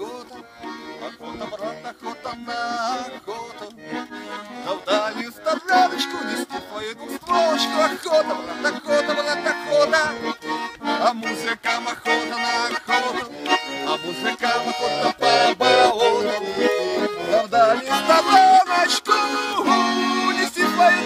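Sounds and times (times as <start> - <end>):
button accordion playing: 0.0 - 21.0.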